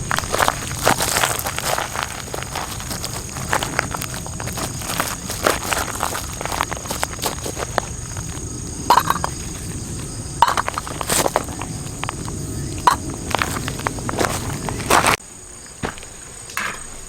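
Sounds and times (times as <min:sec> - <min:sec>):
firewood crackling and popping: 0:00.0 - 0:15.2
crickets trilling: 0:00.0 - 0:17.0.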